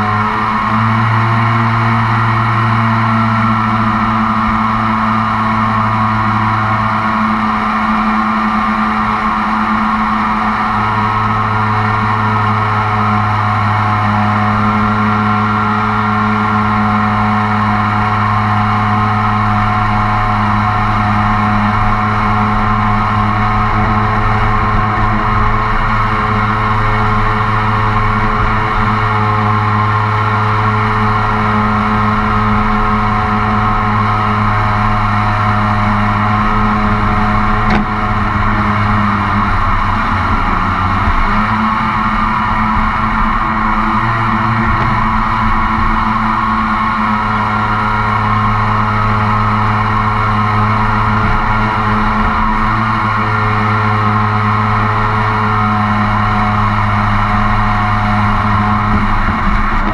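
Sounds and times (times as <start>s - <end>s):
jet boat engine running: 0.0s - 59.9s.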